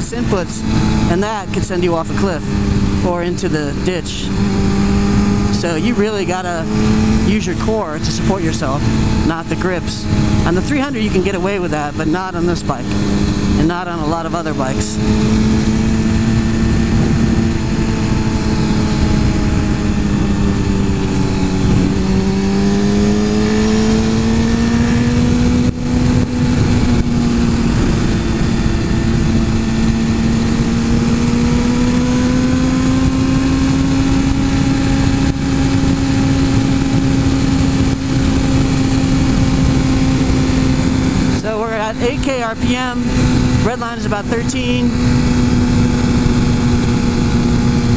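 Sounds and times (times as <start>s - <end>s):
motorcycle engine at high revs: 0.0s - 47.9s
wind and road noise: 0.0s - 47.9s.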